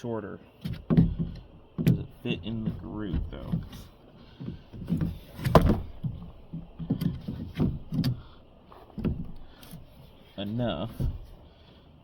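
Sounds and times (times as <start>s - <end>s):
small clunks: 0.5s - 11.8s.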